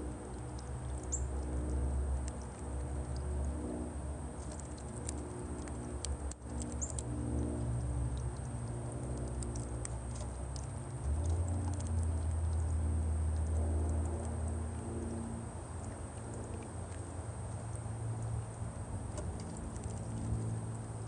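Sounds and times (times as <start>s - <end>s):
birds ticking and chirping: 0.0s - 21.0s.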